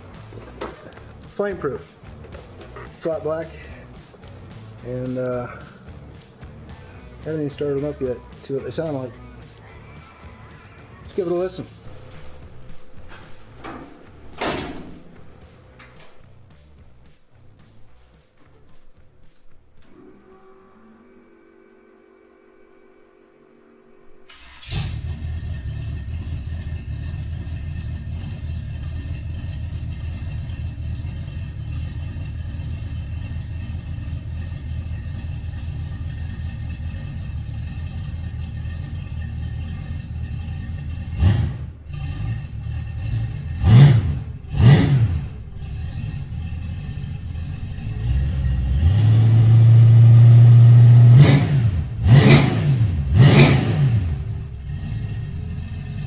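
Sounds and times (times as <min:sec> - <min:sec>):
engine starting and idling: 0:00.0 - 0:18.4, 0:19.8 - 0:56.0
engine throttle blips: 0:00.0 - 0:56.0.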